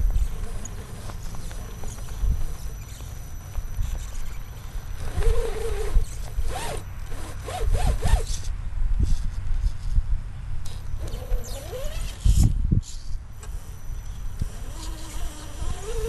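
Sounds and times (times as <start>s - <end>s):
toy car electric motor whining: 0.0s - 8.5s, 10.7s - 16.0s.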